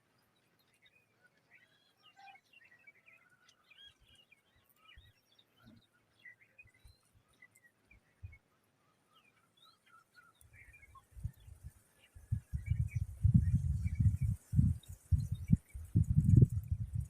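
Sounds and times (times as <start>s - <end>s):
rapid bird chirping: 0.7s - 17.0s.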